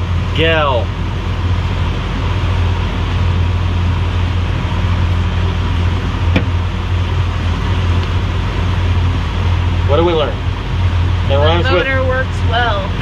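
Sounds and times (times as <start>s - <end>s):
outboard motor droning: 0.0s - 13.0s
water noise: 0.0s - 13.0s
wind: 0.0s - 13.0s.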